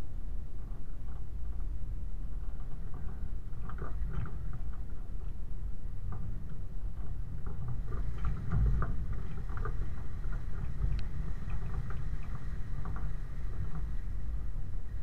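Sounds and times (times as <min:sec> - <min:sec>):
low vehicle rumble: 0:00.0 - 0:15.0
wheels splashing through water: 0:01.2 - 0:15.0.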